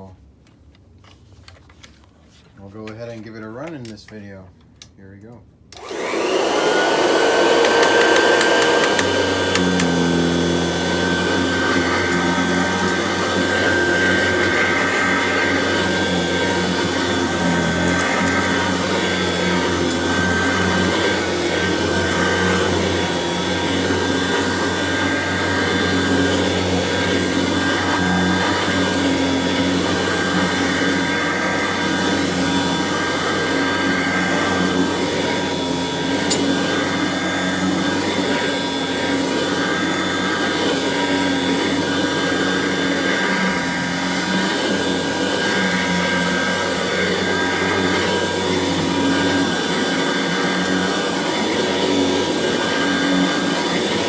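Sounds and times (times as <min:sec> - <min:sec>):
vacuum cleaner motor whine: 0:05.7 - 0:54.0.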